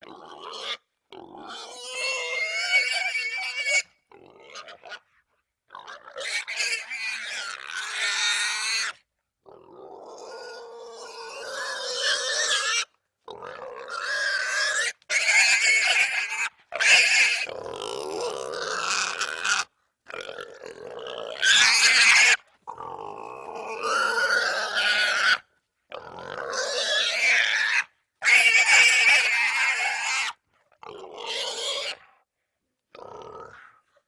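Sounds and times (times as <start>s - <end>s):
wild boar squealing: 0.0s - 5.2s, 5.8s - 9.0s, 9.6s - 32.2s.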